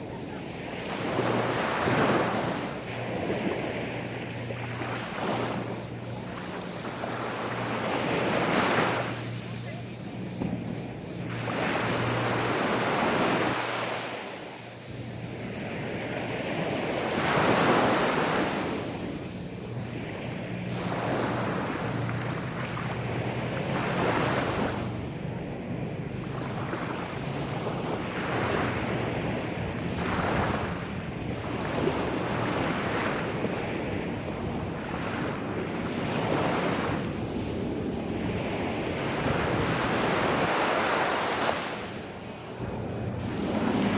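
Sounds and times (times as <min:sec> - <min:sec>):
sea waves washing onto beach: 0:00.0 - 0:43.9.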